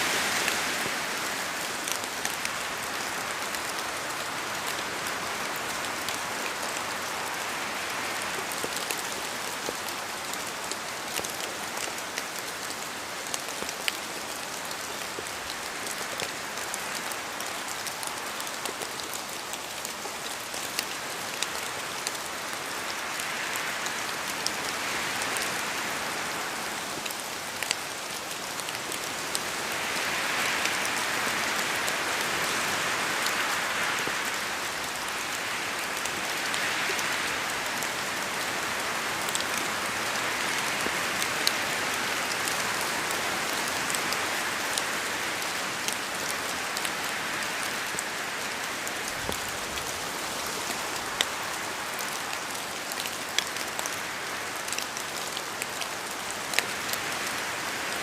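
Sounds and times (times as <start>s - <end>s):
rain falling: 0.0s - 58.0s
raindrops ticking on a surface: 0.1s - 58.0s.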